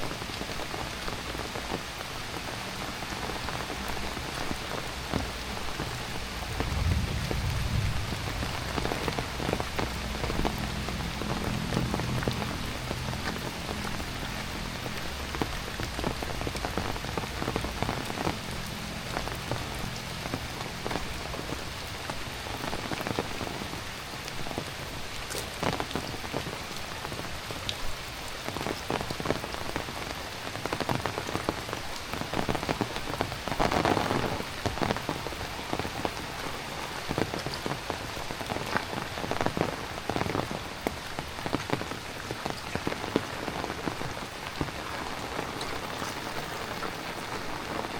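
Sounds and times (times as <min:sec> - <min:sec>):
heavy rain falling: 0:00.0 - 0:47.9
raindrops ticking close by: 0:00.0 - 0:47.9.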